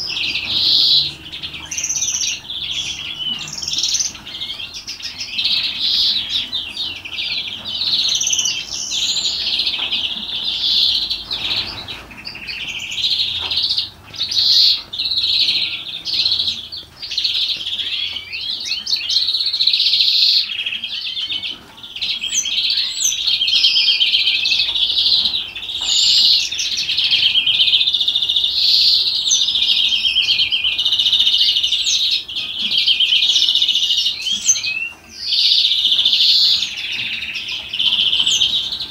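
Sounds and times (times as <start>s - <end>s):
finch singing trills: 0.0s - 38.9s.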